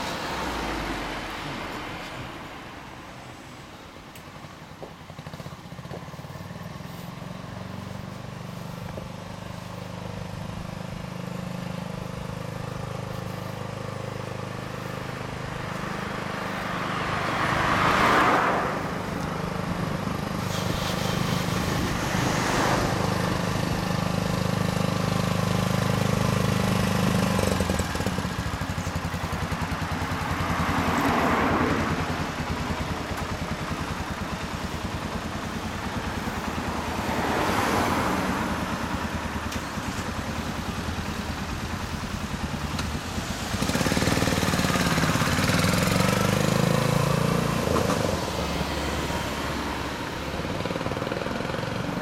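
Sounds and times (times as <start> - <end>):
motorcycle engine at low revs: 0.0 - 52.0
vehicles passing: 0.0 - 52.0.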